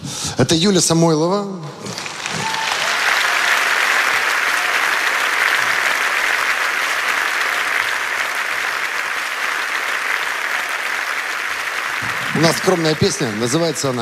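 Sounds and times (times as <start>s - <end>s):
audience applauding: 1.8s - 14.0s.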